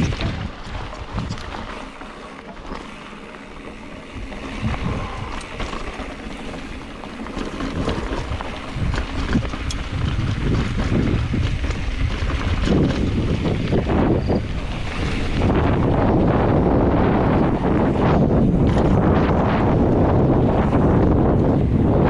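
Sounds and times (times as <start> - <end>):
wind buffeting microphone: 0.0 - 2.0, 3.7 - 22.0
bike clicks and rattles: 0.0 - 22.0
tyres crunching over dirt: 0.0 - 22.0.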